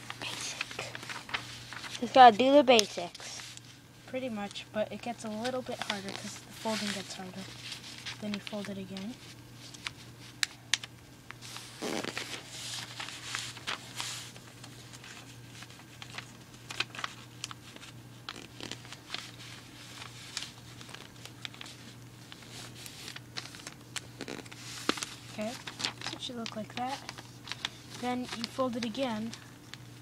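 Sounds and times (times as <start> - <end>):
paper being folded and creased: 0.0 - 3.8, 4.4 - 29.9
low steady hum: 0.0 - 30.0.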